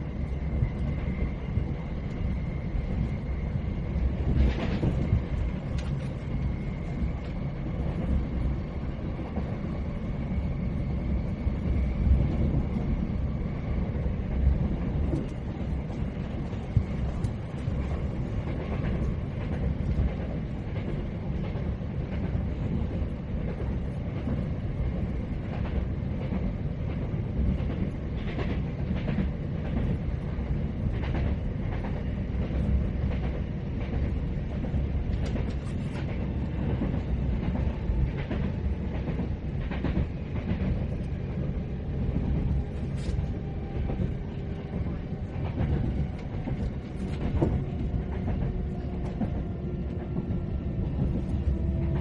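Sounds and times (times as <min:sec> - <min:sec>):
train carriage rumble: 0:00.0 - 0:52.0
train wheels clicking on track: 0:00.0 - 0:52.0.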